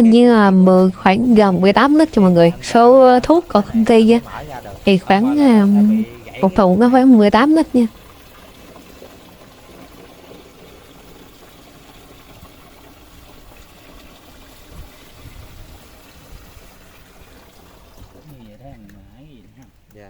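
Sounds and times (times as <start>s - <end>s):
water pouring into a tank: 0.2s - 18.9s.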